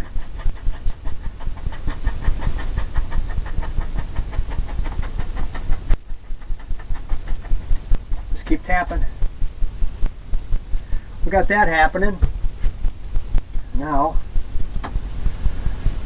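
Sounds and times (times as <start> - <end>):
brush tapping on canvas: 0.0 - 16.0.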